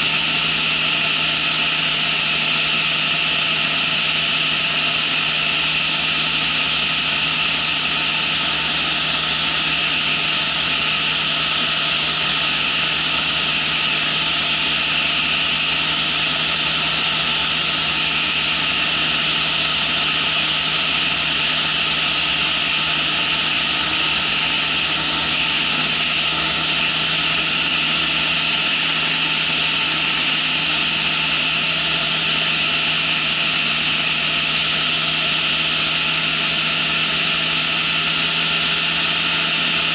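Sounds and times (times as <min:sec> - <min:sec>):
ultralight engine and propeller drone: 0:00.0 - 0:39.9.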